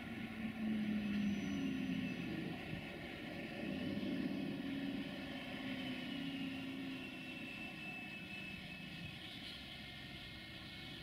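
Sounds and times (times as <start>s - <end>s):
thin high whine: 0.0s - 9.9s
freight train wagons rumbling: 0.0s - 11.0s.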